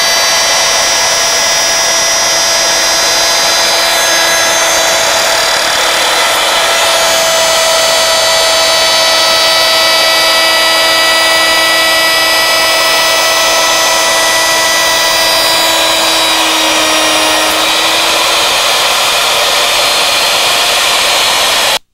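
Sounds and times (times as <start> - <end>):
router cutting wood with high whine: 0.0 - 21.9.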